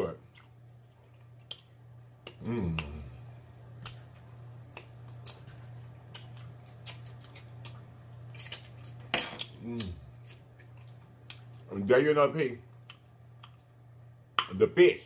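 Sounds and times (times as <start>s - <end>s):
steady low hum: 0.0s - 15.0s
crunching and chewing: 0.2s - 11.9s, 12.7s - 13.8s.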